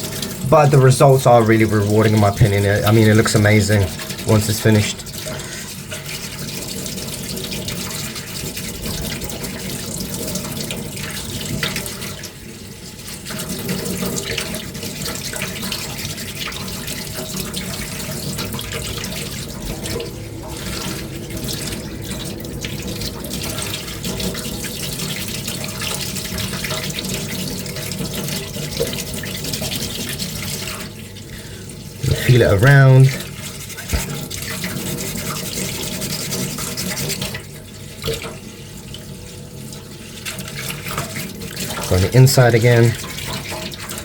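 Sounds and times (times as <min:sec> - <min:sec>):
water sloshing and splashing: 0:00.0 - 0:44.0.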